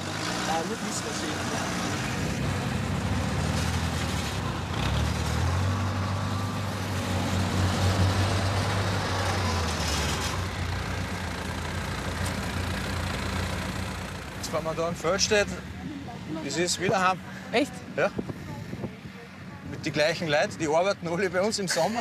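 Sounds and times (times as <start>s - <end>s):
diesel engine running: 0.0s - 17.7s.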